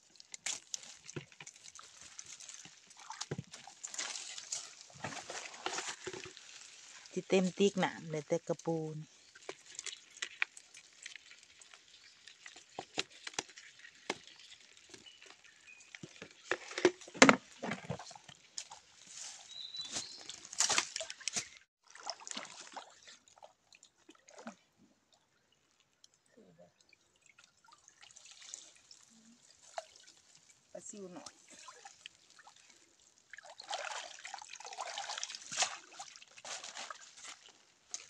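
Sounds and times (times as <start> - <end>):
water dripping: 0.0 - 16.6, 17.6 - 38.0
water splashing in a plastic bucket: 0.0 - 24.8, 25.6 - 38.0.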